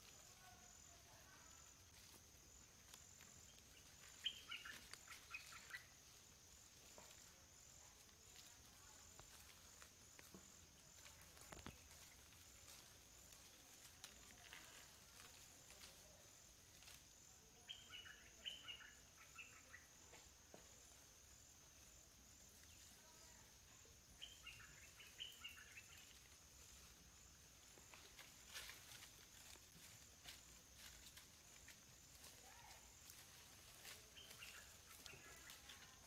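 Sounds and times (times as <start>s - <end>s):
high-pitched insect trill: 0.0s - 36.0s.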